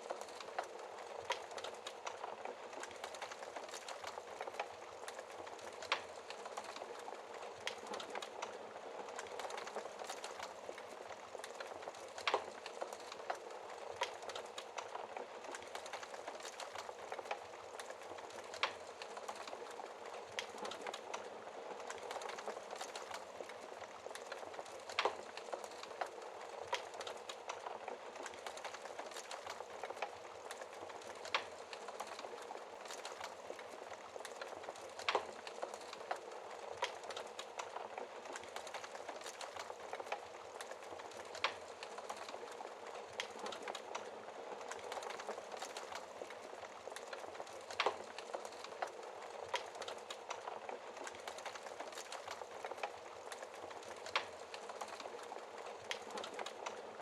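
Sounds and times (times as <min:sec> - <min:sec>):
sharp snaps and pops of fire: 0:00.0 - 0:57.0
wood fire crackling: 0:00.0 - 0:57.0.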